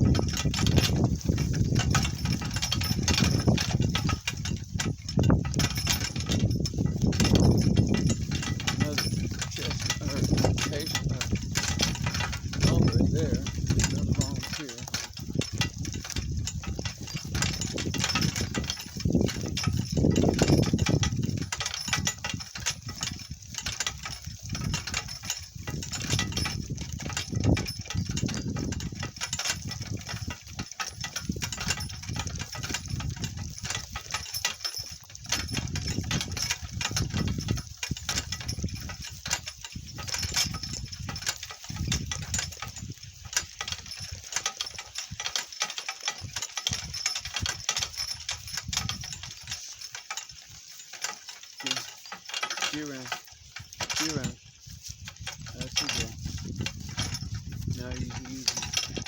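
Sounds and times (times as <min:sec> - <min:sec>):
cart rattling over bumpy ground: 0:00.0 - 0:59.0.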